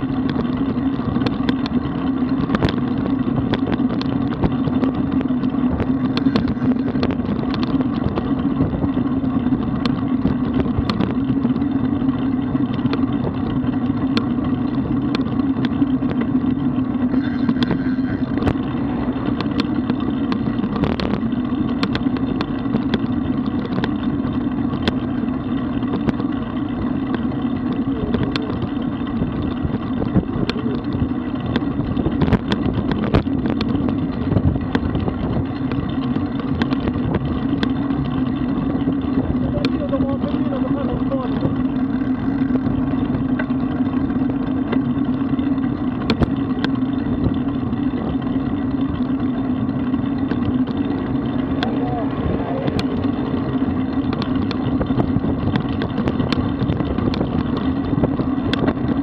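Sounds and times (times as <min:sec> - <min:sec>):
small knocks and rattles: 0:00.0 - 0:11.7, 0:12.5 - 0:51.8, 0:52.6 - 0:59.0
bicycle road and wind noise: 0:00.0 - 0:59.0.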